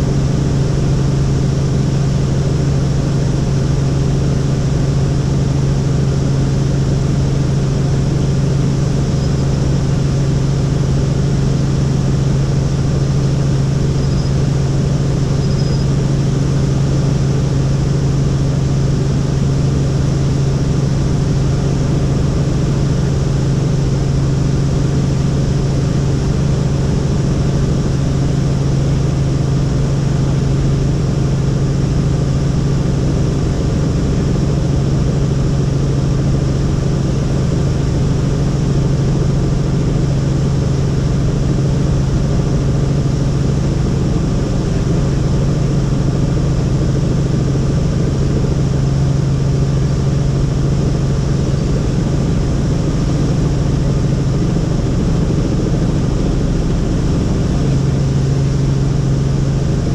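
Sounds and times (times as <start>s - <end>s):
helicopter running: 0.0s - 59.9s.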